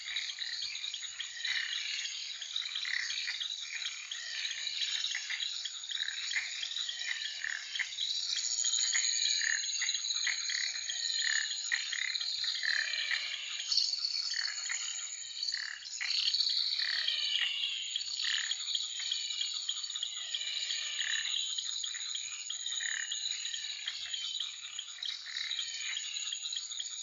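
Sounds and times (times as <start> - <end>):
frogs and insects calling: 0.0 - 27.0.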